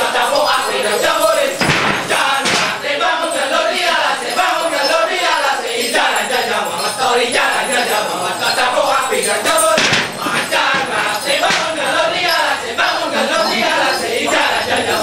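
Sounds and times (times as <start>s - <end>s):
chorus of voices chanting: 0.0s - 15.0s.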